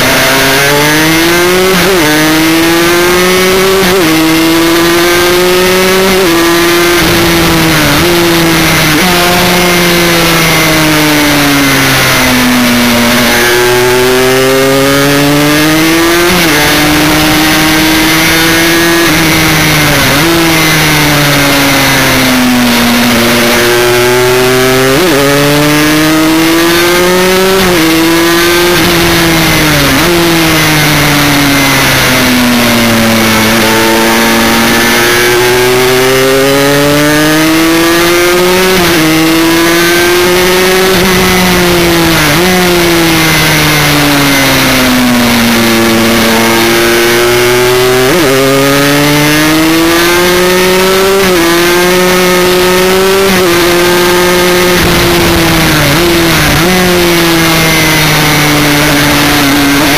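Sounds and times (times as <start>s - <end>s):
motorcycle engine at full throttle: 0.0s - 59.9s.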